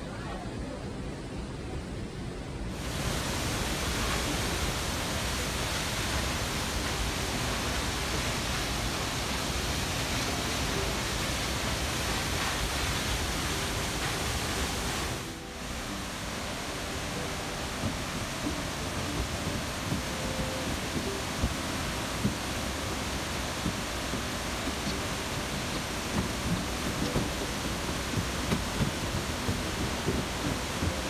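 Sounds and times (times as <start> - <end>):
waterfall rushing: 2.7 - 31.0.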